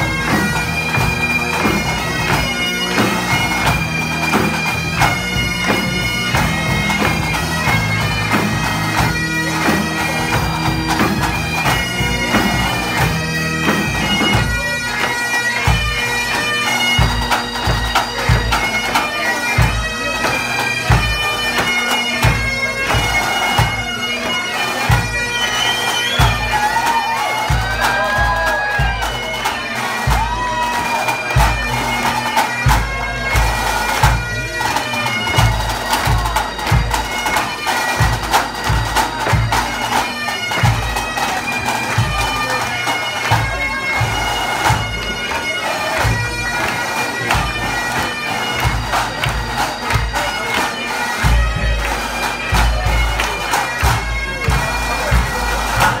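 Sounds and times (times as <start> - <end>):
bagpipes playing: 0.0 - 56.0
band drums: 0.0 - 56.0.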